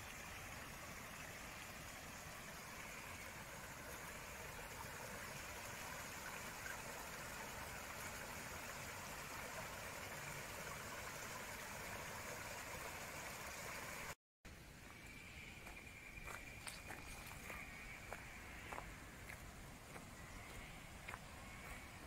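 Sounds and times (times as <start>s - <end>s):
creek running: 0.0s - 22.0s.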